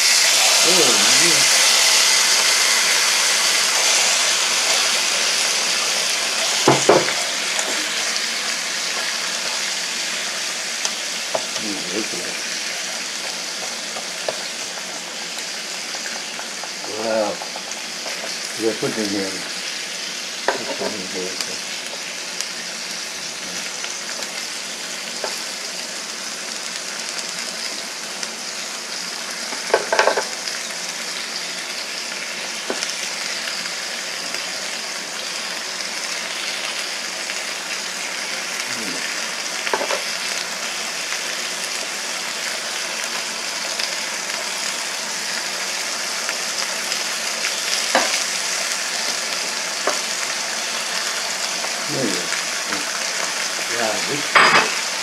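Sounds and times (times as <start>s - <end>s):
meat and vegetables sizzling on grill: 0.0s - 55.0s.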